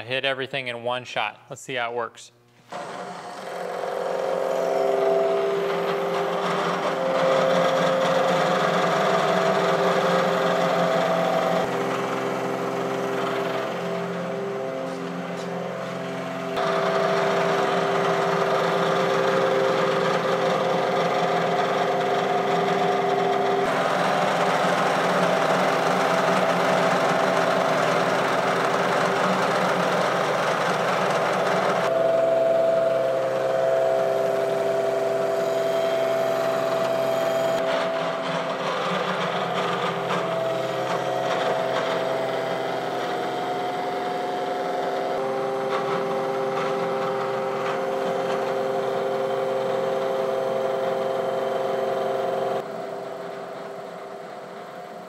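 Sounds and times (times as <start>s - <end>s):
milling machine cutting steel: 2.7s - 54.8s.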